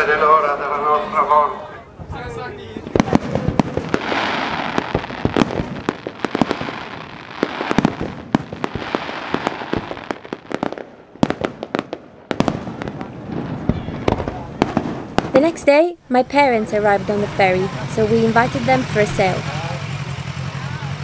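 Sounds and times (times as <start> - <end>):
fireworks bangs: 2.0 - 21.0
fireworks crackling: 2.0 - 21.0.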